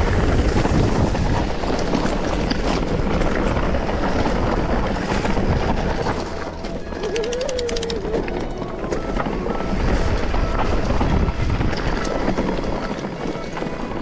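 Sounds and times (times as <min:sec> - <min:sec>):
bike rattling over rough ground: 0:00.0 - 0:14.0
wind buffeting microphone: 0:00.0 - 0:14.0.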